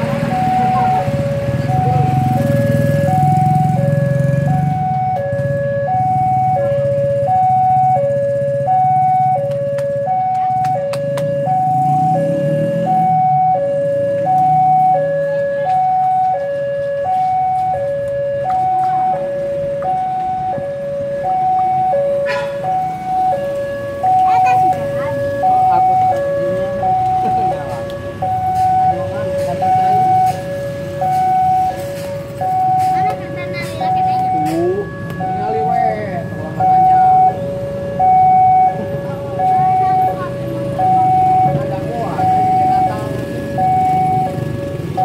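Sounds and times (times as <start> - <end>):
low engine rumble of traffic: 0.0 - 45.0
two-tone crossing alarm: 0.0 - 45.0.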